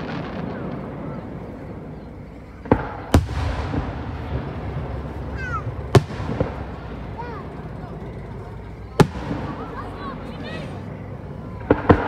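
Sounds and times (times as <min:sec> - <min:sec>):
firework bangs: 0:00.0 - 0:12.0
low rumble: 0:00.0 - 0:12.0.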